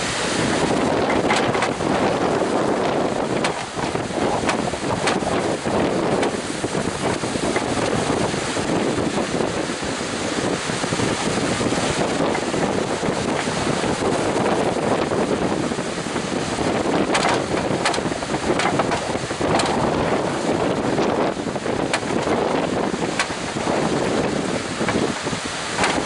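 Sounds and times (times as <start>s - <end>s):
crashing surf: 0.0s - 26.0s
strong wind on microphone: 0.0s - 26.0s.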